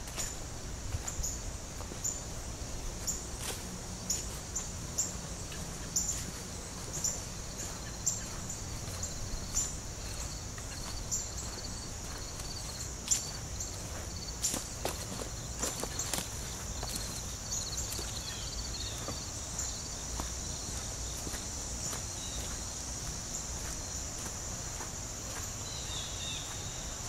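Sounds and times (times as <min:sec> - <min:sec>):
footsteps crunching on leaves: 0:00.0 - 0:27.0
insects buzzing: 0:00.0 - 0:27.0.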